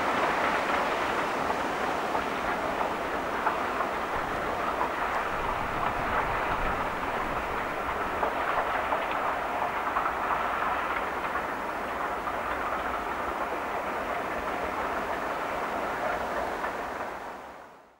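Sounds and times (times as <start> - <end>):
train coaches rolling on rails: 0.0 - 17.9.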